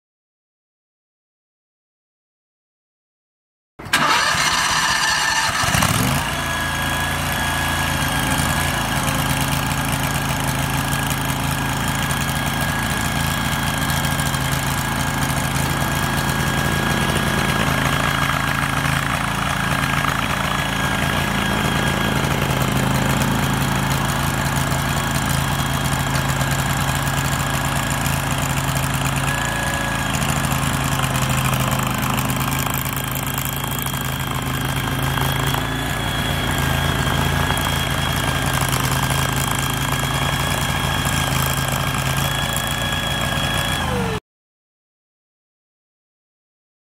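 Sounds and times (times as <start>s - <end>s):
track loader engine running: 3.8s - 44.2s.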